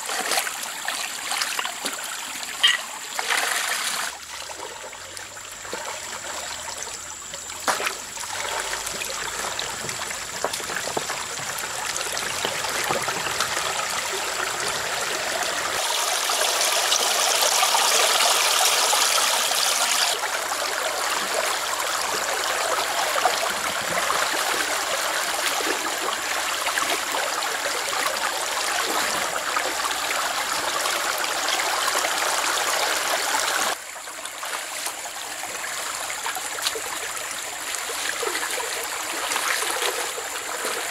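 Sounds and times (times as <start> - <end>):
stream water over rocks: 0.0 - 40.9.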